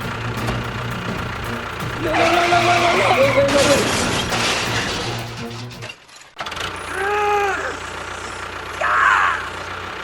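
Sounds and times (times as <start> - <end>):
engine idling: 0.0 - 5.8, 6.4 - 10.0.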